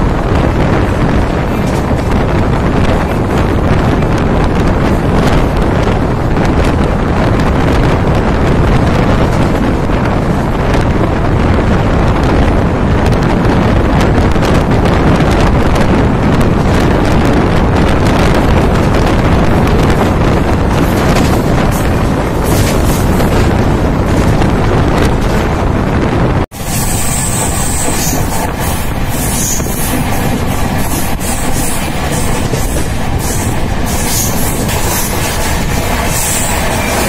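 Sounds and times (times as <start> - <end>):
train running on track: 0.0 - 37.0
wind buffeting microphone: 0.0 - 37.0.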